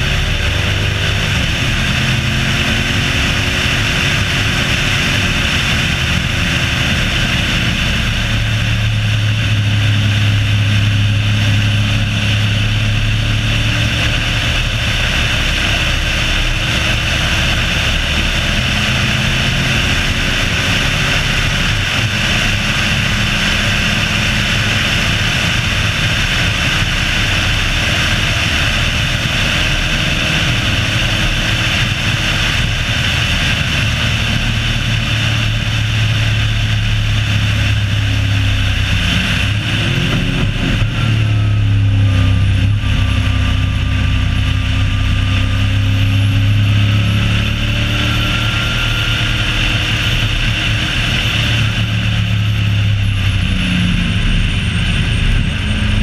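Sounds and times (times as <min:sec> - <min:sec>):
car engine running: 0:00.0 - 0:56.0
wind and road noise: 0:00.0 - 0:56.0.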